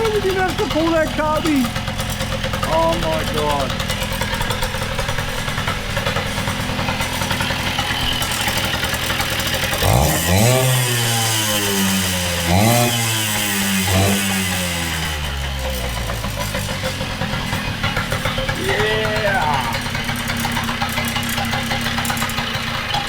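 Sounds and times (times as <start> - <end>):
two-stroke engine idling and revving: 0.0 - 23.0.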